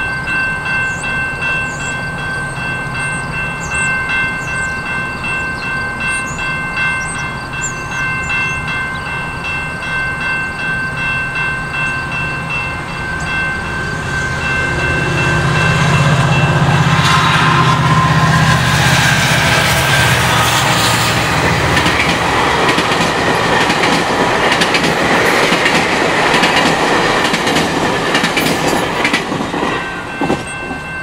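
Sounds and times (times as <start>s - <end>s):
railway crossing bell ringing: 0.0s - 31.0s
train rumbling: 0.0s - 31.0s.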